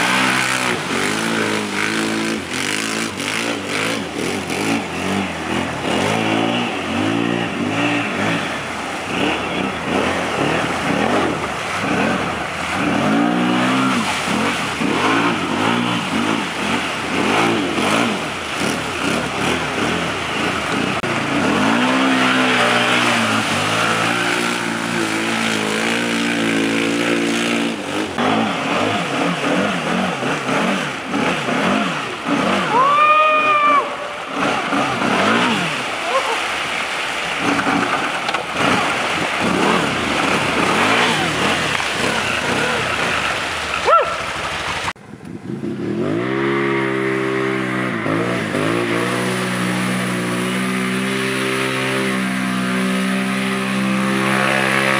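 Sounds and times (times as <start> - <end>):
atv engine revving: 0.0 - 54.9
constant rushing noise: 0.0 - 54.9.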